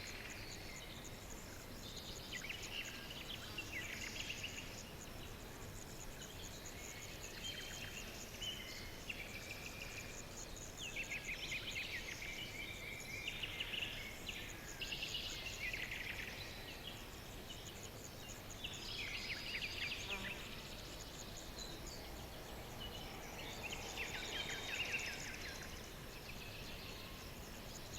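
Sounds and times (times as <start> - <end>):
insect chorus: 0.0 - 27.9
low outdoor background noise: 0.0 - 27.9
songbirds singing: 0.0 - 27.9.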